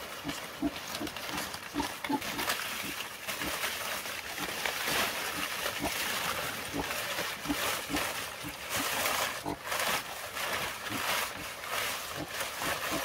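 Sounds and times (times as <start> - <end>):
pigs grunting: 0.0 - 9.9, 10.7 - 13.0.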